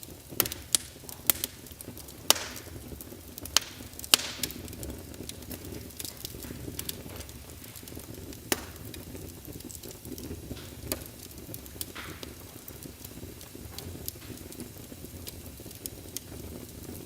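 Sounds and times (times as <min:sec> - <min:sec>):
fire crackling and popping: 0:00.0 - 0:17.0
low rush of flames: 0:00.0 - 0:17.0.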